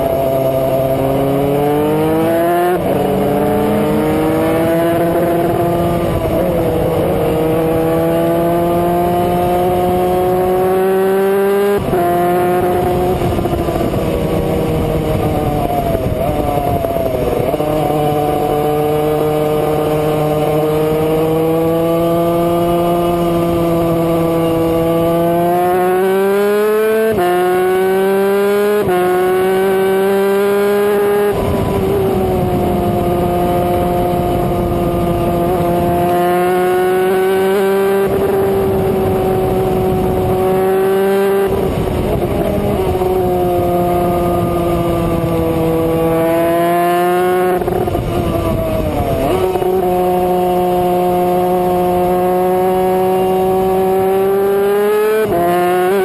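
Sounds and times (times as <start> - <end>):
two-stroke kart engine revving: 0.0 - 56.0.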